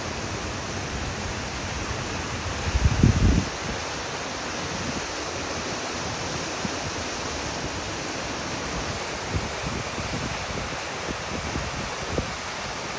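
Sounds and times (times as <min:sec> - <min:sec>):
waterfall rushing: 0:00.0 - 0:12.9
wind buffeting microphone: 0:00.7 - 0:12.9.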